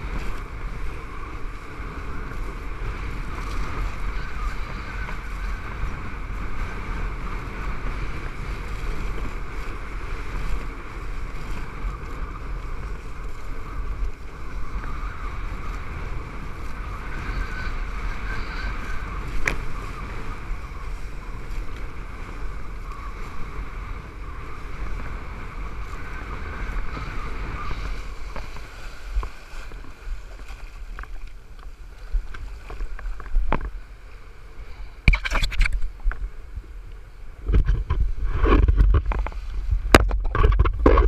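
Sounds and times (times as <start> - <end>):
water rushing under kiteboard: 0.0 - 41.0
wind buffeting microphone: 0.0 - 41.0.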